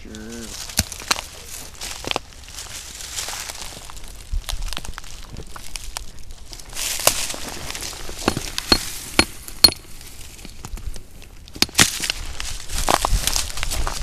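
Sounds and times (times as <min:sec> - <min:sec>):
rustling: 0:00.0 - 0:14.0
flat rocks clinking: 0:00.4 - 0:14.0.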